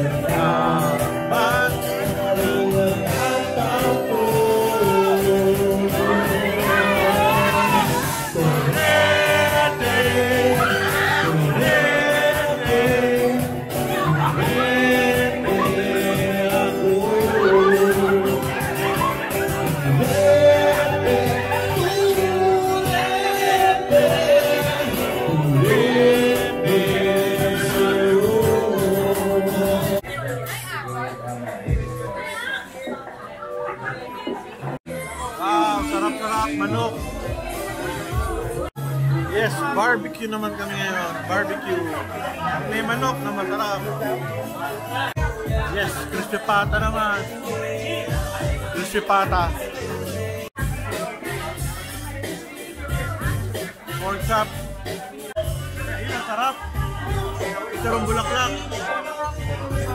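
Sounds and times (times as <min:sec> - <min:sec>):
live band playing: 0:00.0 - 0:32.8, 0:34.4 - 0:59.9.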